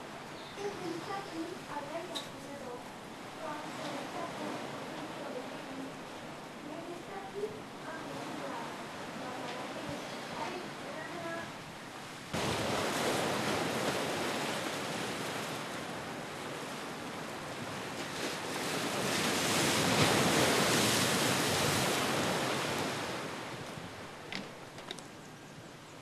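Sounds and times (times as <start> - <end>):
surf washing over rocks: 0.0 - 25.2.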